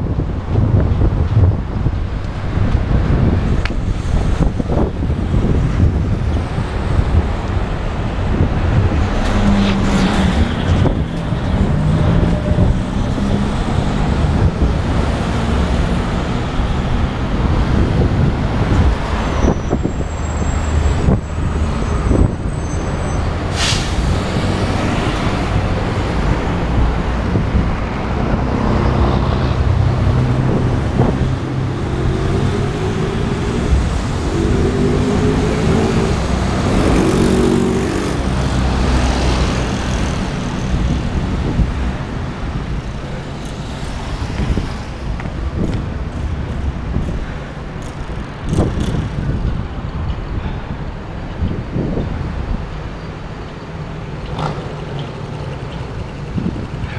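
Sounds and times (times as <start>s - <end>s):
passing motor vehicle engines: 0.0s - 56.9s
wind rumbling on microphone: 0.0s - 56.9s.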